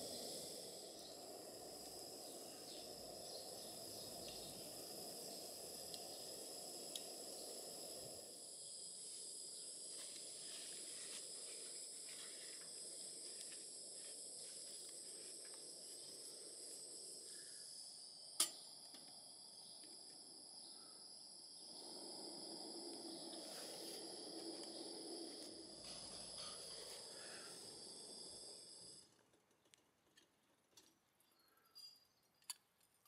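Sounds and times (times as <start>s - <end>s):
soft low hiss: 0.0s - 31.3s.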